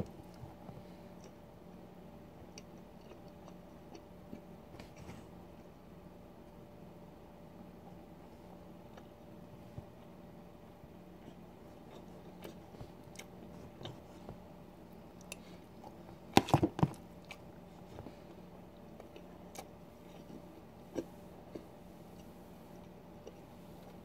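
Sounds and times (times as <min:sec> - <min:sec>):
close chewing and wet mouth sounds: 0:00.0 - 0:05.8, 0:08.4 - 0:24.0.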